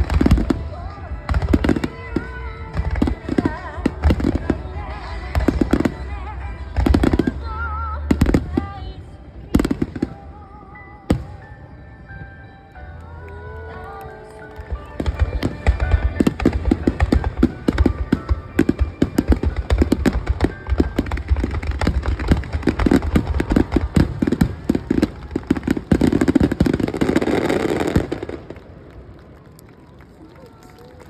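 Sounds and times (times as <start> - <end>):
fireworks booming bangs: 0.0 - 10.4, 13.9 - 28.8
fireworks crackle: 0.0 - 11.8, 12.7 - 31.0.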